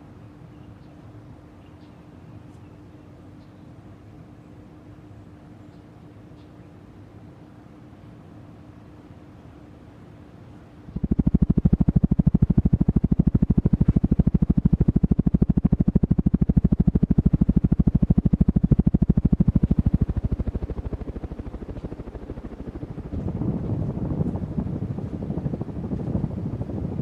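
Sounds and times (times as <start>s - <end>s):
ceiling fan air pulsing: 0.0s - 27.0s.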